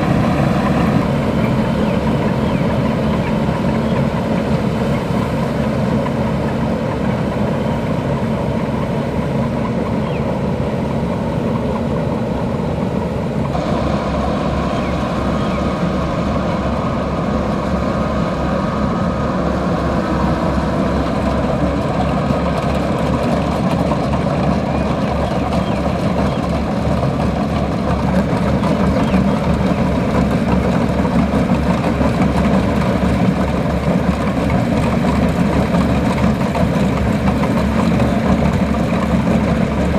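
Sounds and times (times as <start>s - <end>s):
combine harvester engine and threshing: 0.0s - 39.9s.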